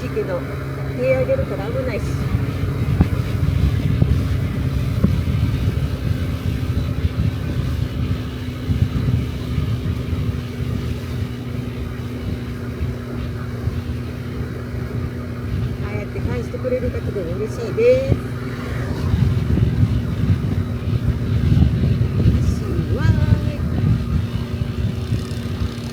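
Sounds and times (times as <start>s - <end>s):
scooter engine running: 0.0s - 25.9s
wind rumble on microphone: 0.0s - 25.9s.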